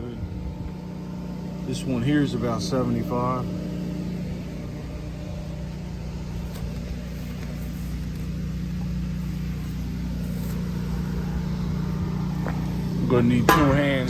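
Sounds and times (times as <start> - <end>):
generator engine humming: 0.0 - 14.0.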